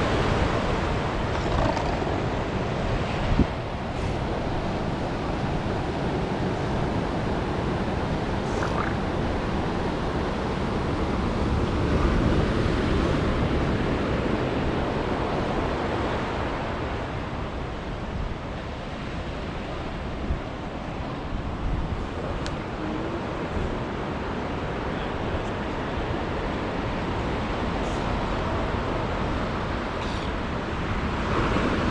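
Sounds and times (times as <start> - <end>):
ocean surf washing ashore: 0.0 - 31.9
wind rumbling on microphone: 0.0 - 31.9.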